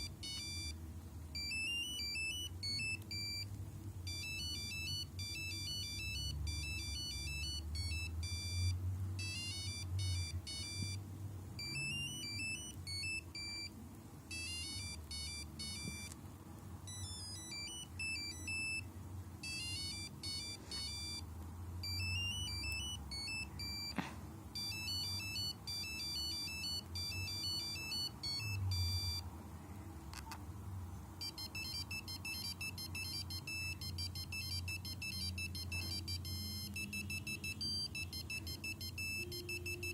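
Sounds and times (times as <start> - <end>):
mobile phone beeping ringtone: 0.0 - 0.8, 1.4 - 11.0, 11.6 - 16.2, 16.9 - 24.0, 24.6 - 29.3, 31.2 - 39.9.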